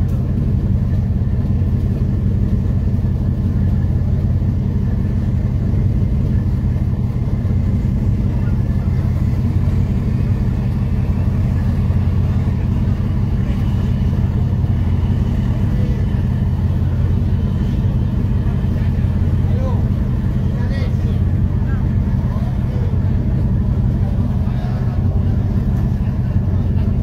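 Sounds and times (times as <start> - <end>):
ferry diesel engines droning: 0.0 - 27.0.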